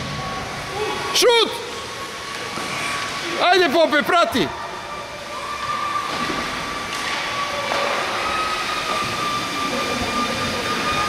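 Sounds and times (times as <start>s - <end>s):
steady rush of rink noise: 0.0s - 11.0s
thin high whine: 0.0s - 11.0s.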